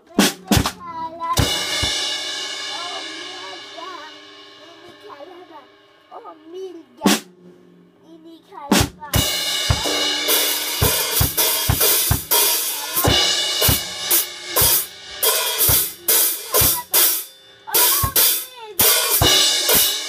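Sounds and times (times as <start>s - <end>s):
drum kit playing: 0.0s - 7.9s, 8.6s - 20.0s.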